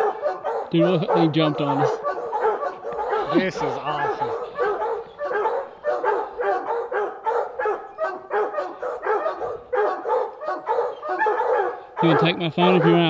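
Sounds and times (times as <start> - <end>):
hounds baying and barking: 0.0 - 13.0.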